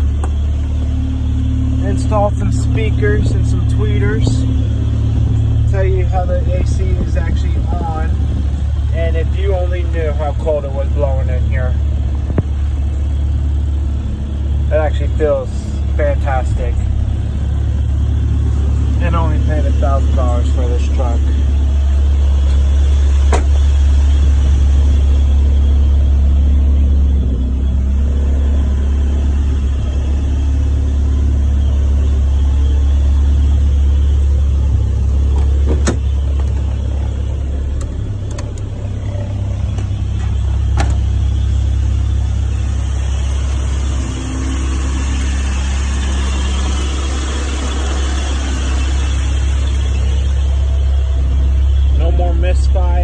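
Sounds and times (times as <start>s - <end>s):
pickup engine idling: 0.0s - 53.0s.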